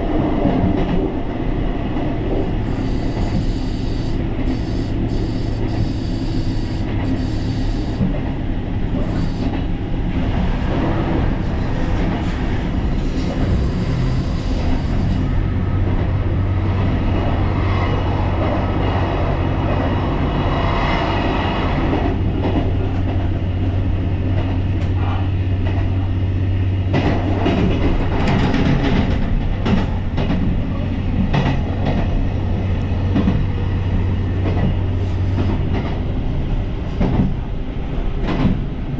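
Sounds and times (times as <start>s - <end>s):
diesel railcar engine drone: 0.0s - 38.9s
train rolling noise: 0.0s - 38.9s.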